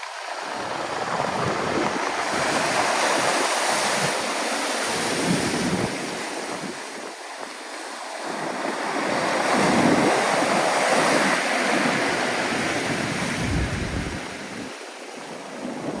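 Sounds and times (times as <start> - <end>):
storm waves crashing on shore: 0.0 - 16.0
wind buffeting microphone: 0.0 - 16.0.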